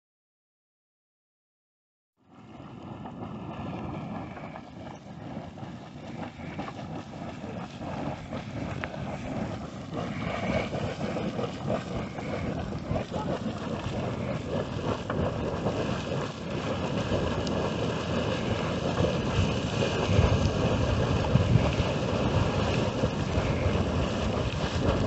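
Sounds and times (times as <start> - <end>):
hot spring pool boiling: 2.3 - 25.0
water splashing and crackling: 2.4 - 25.0.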